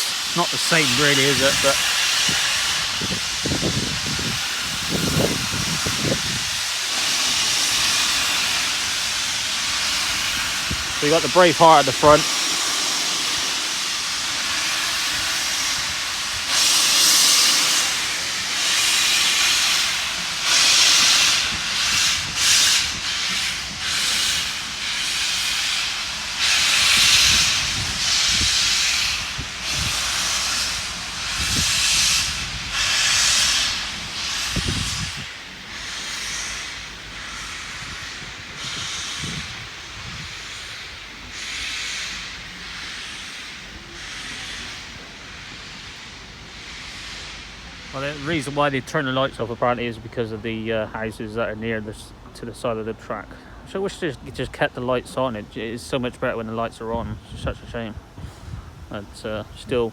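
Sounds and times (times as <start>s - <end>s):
hiss of steam: 0.0s - 59.9s
locomotive exhaust chuffs: 0.0s - 59.9s.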